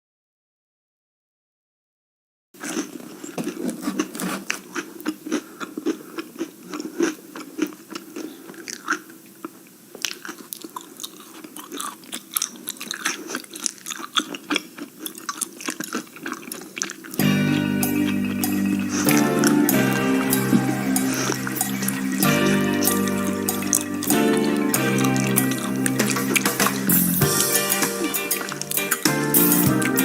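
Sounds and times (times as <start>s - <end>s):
close crackling and snapping: 2.6s - 17.2s, 17.9s - 30.0s.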